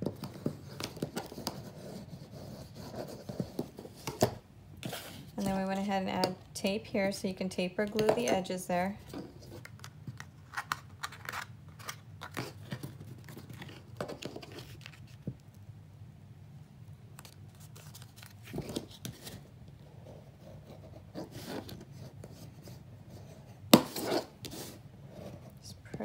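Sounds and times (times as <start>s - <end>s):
cardstock rustling and scraping: 0.0s - 6.3s, 9.0s - 15.4s, 17.2s - 26.0s.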